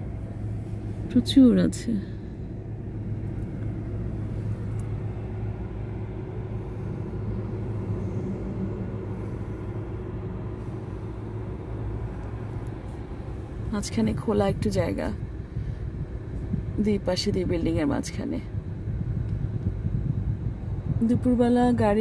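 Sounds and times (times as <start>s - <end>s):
car idling from inside: 0.0s - 22.0s.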